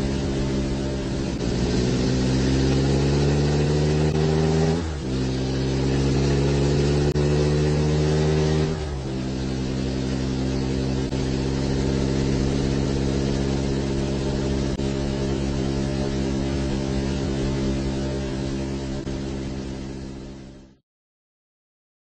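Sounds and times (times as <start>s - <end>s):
vehicle engine humming: 0.0s - 20.8s.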